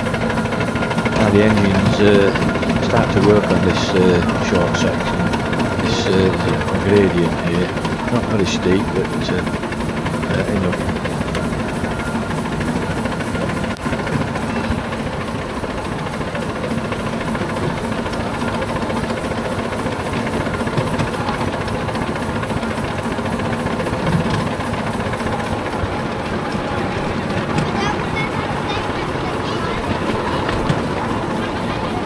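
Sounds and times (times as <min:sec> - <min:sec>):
steam locomotive exhaust beats: 0:00.0 - 0:32.0.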